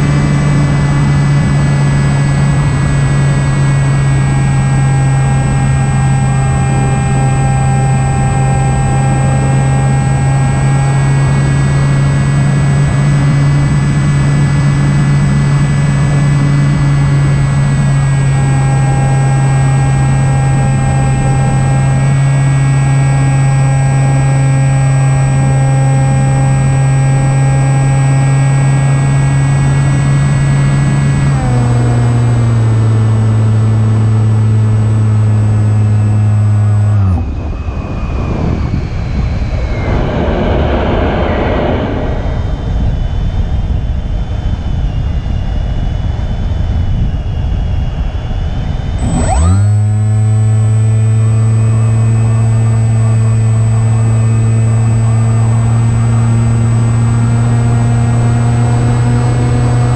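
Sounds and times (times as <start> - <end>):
electric motor propeller drone: 0.0 - 41.3, 48.4 - 59.9.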